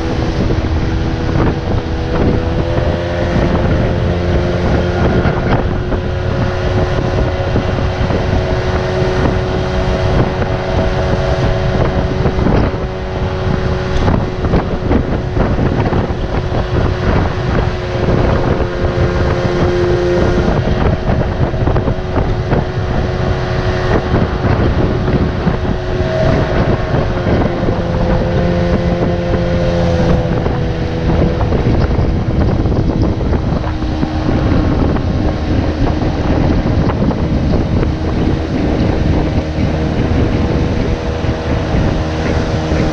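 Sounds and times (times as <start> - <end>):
electric motor whine: 0.0 - 42.9
wind noise on microphone: 0.0 - 42.9.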